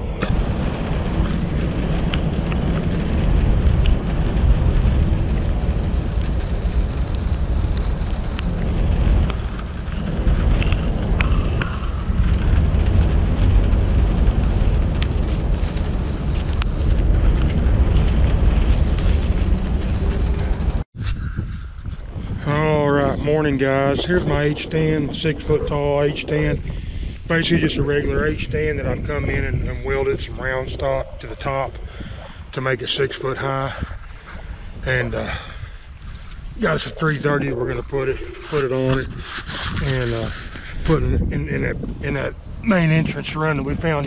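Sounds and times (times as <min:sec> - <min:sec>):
rain and wind on microphone: 0:00.0 - 0:44.0.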